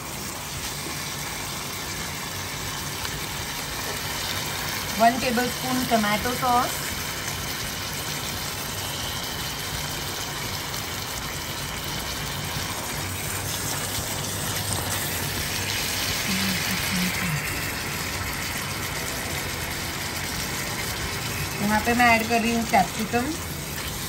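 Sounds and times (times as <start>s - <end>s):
food sizzling in wok: 0.0s - 24.0s.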